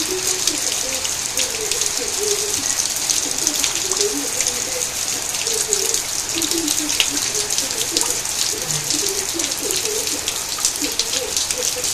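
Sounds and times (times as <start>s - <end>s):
rain pattering on pavement and plants: 0.0s - 11.9s.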